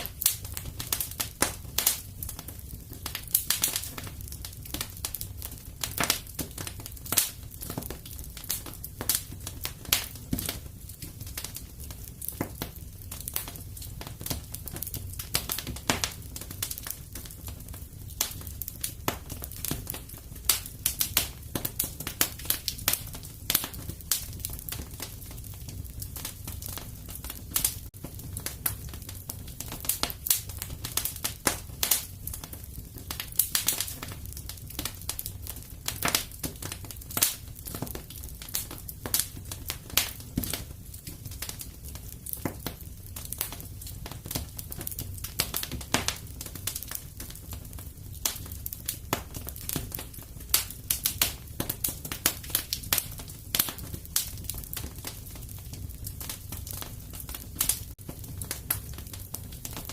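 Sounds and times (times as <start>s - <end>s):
fire low rumble: 0.0s - 59.9s
fire popping and snapping: 0.0s - 59.9s.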